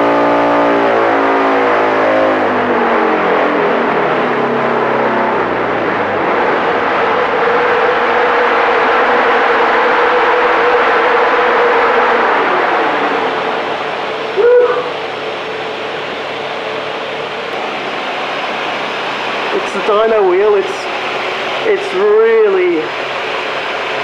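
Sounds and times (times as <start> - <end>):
dyno wheel rushing: 0.0 - 24.0
steady tone: 1.4 - 24.0.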